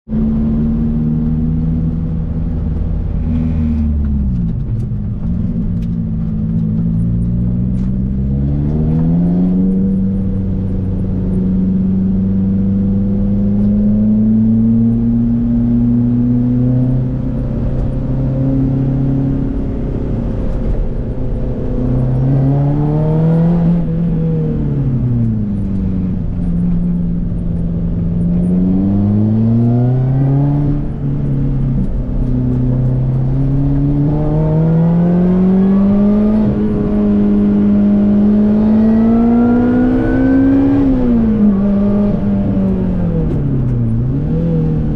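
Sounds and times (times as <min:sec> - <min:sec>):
car engine from inside cabin: 0:00.1 - 0:44.9.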